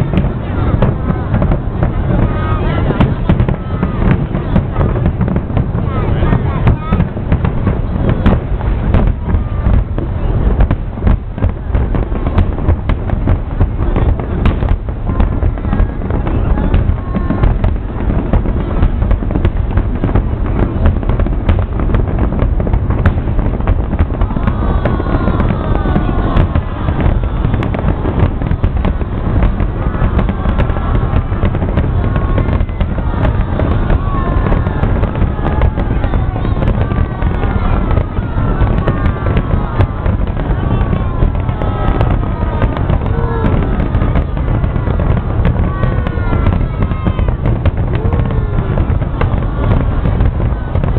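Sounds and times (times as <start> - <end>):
deep rumble: 0.0 - 50.9
fireworks bangs and booms: 0.0 - 50.9.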